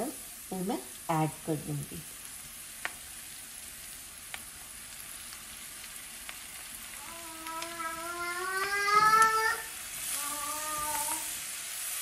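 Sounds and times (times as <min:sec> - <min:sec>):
masala frying in oil: 0:00.0 - 0:12.0.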